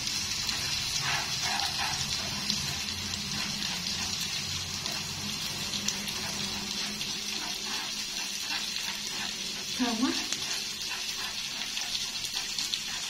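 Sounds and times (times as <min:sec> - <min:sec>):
corn sizzling in a pan: 0:00.0 - 0:13.0.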